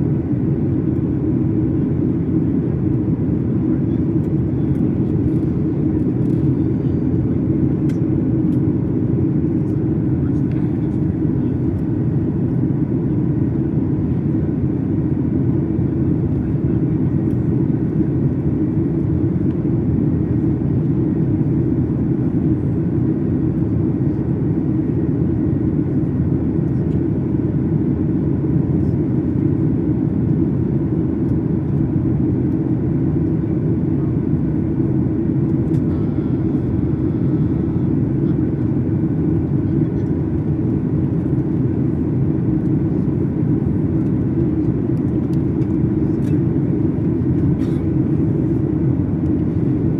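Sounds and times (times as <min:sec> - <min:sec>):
airplane cabin drone: 0:00.0 - 0:49.9.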